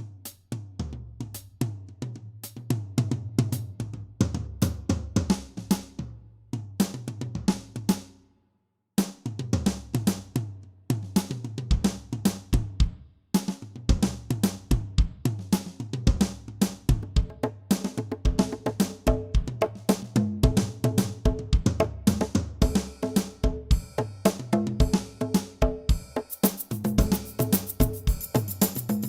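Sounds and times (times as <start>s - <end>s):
drum kit beat with bass line: 0.0s - 8.2s, 9.0s - 29.0s.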